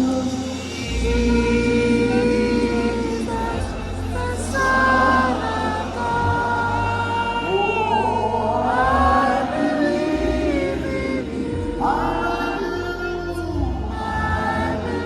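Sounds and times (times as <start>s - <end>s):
steady bass: 0.0s - 15.0s
voices singing gospel: 0.0s - 15.0s.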